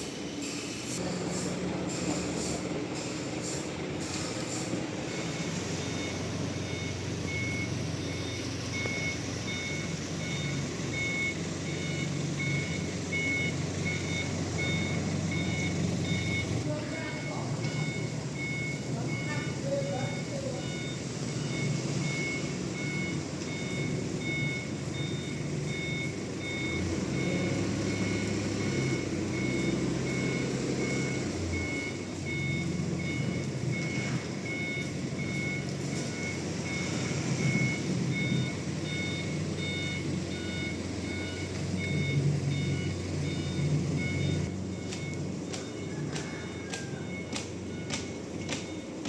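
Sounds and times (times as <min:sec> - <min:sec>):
diesel engine running: 0:00.0 - 0:49.0
reversing alarm beeping: 0:00.0 - 0:49.0.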